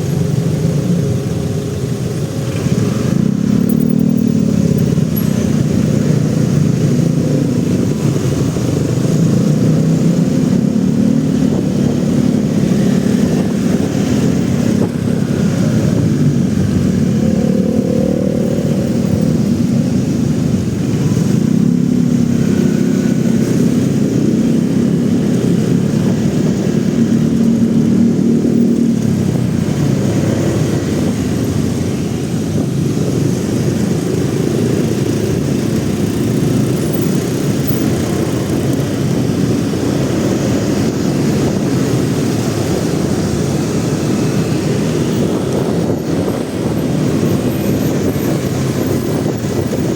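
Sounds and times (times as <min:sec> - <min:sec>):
motorcycle engine revving: 0:00.0 - 0:49.9
traffic engines: 0:00.0 - 0:49.9.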